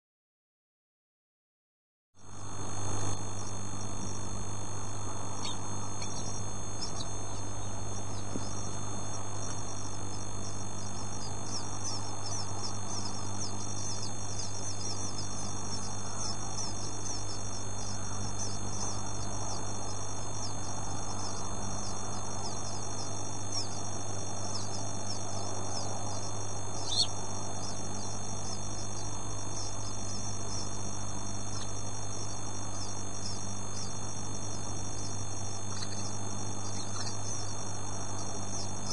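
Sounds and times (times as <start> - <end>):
low electrical hum: 2.2 - 38.9
bird chicks cheeping: 3.0 - 38.9.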